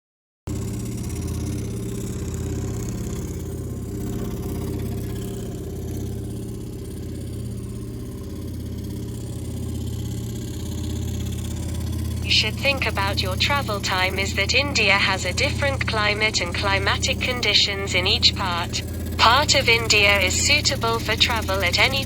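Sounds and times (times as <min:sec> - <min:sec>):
engine idling drone: 0:00.5 - 0:22.0.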